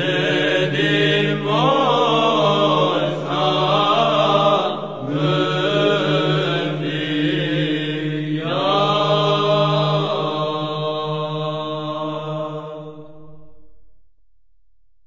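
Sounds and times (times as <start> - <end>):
slow sung chant melody: 0.0 - 14.2.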